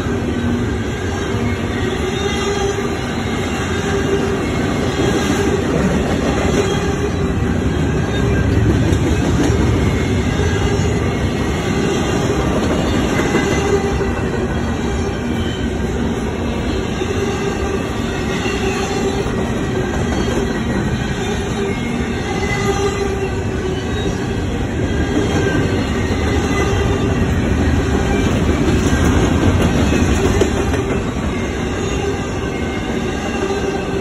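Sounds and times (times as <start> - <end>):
steel wheels rumbling on rails: 0.0 - 34.0.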